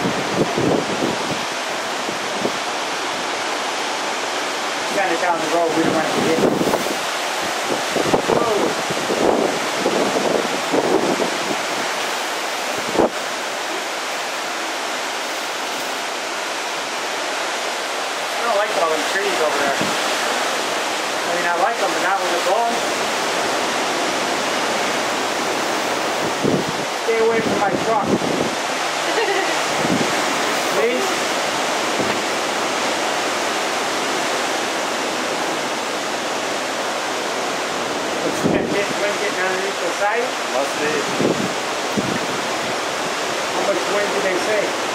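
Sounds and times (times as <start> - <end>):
strong wind blowing: 0.0 - 44.9
wind-driven rain: 0.0 - 44.9.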